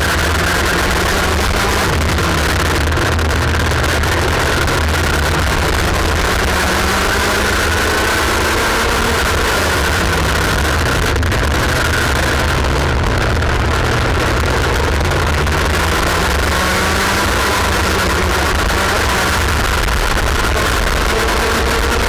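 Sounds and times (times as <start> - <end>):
kart engine high-pitched drone: 0.0 - 22.0.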